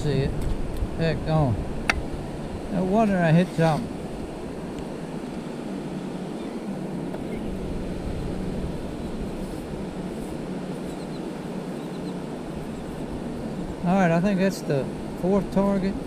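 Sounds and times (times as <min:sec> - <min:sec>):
surf on beach: 0:00.0 - 0:16.0
wind: 0:00.0 - 0:16.0.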